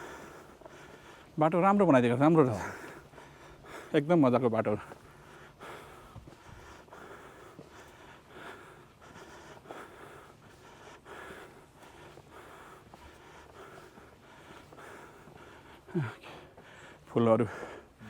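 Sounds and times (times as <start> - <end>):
person breathing hard: 0.0 - 1.4, 2.4 - 4.1, 4.8 - 18.0.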